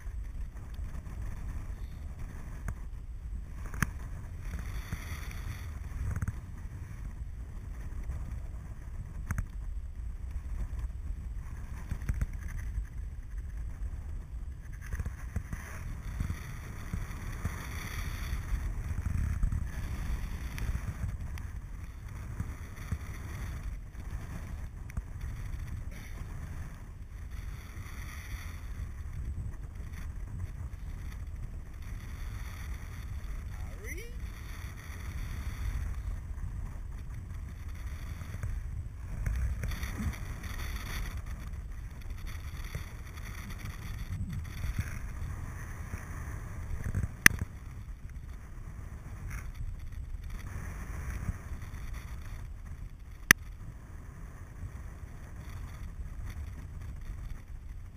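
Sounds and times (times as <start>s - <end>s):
wind noise on microphone: 0.0s - 57.9s.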